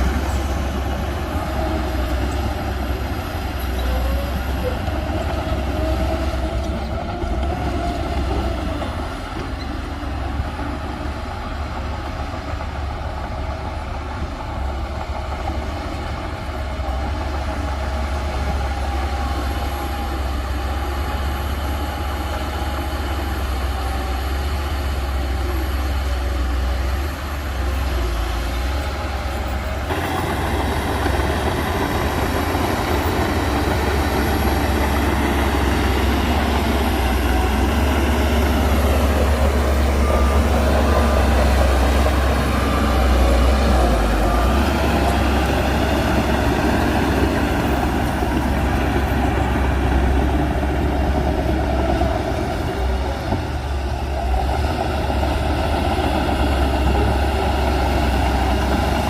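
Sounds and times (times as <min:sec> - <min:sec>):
heavy diesel machinery rumble: 0:00.0 - 0:59.0.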